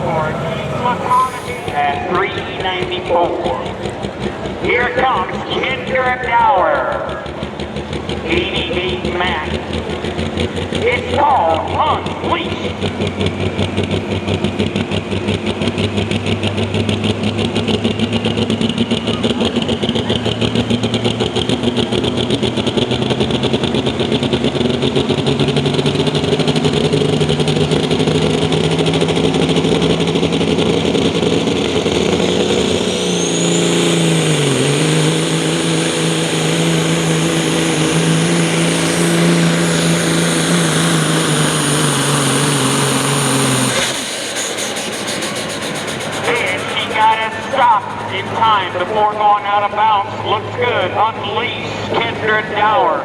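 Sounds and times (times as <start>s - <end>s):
diesel truck engine at full throttle: 0.0s - 53.0s.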